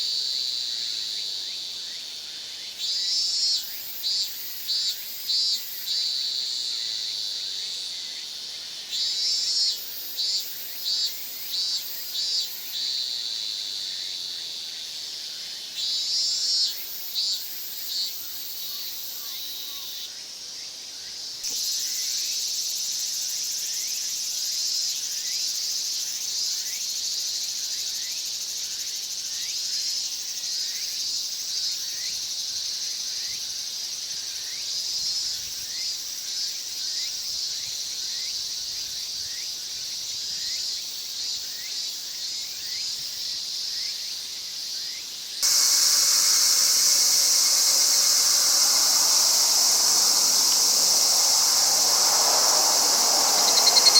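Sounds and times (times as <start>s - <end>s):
cicadas buzzing: 0.0s - 53.9s.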